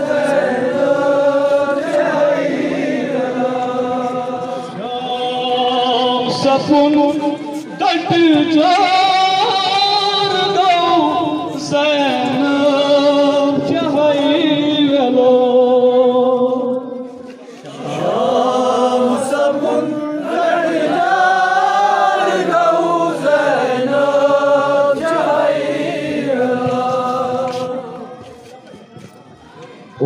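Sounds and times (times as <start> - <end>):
men chanting a lament: 0.0 - 28.2.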